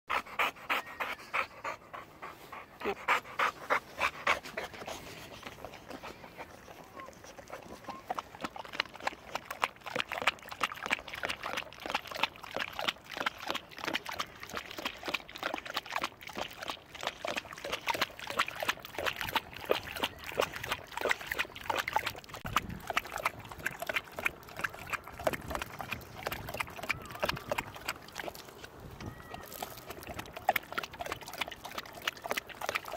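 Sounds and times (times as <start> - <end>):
dog lapping water: 0.1 - 32.9.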